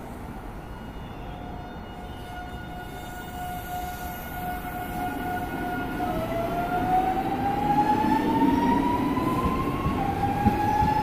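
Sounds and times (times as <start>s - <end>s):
electric train whine: 0.0s - 11.0s.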